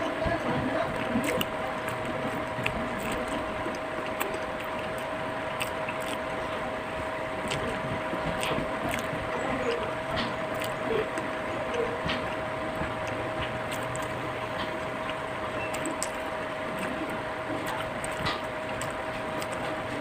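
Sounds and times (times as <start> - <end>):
eating clicks and crunches: 0.0 - 20.0
steady background hum: 0.0 - 20.0.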